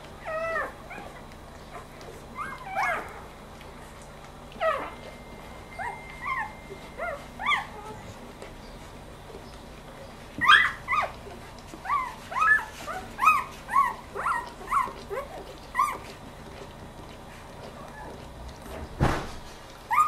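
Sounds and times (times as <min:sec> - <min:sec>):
puppies squeaking and whimpering: 0:00.2 - 0:18.8, 0:19.6 - 0:20.0.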